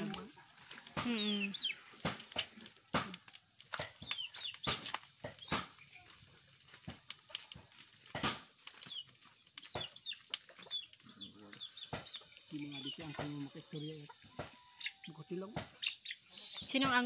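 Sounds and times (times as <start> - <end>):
birds chirping: 0.0 - 2.8, 3.9 - 7.6, 8.6 - 17.0
wood fire crackling: 0.0 - 17.0.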